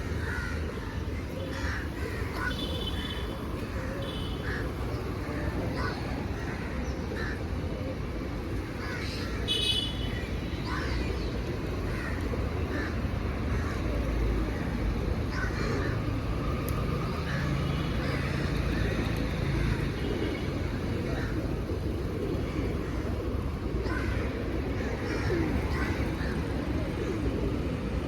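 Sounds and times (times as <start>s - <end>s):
birds calling: 0.0s - 14.1s, 17.3s - 27.6s.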